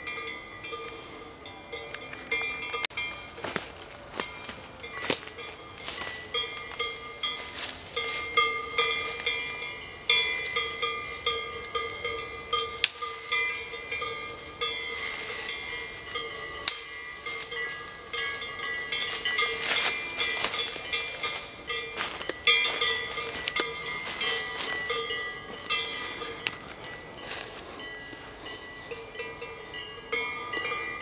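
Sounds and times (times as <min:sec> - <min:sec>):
cowbells clanging: 0:00.0 - 0:31.0.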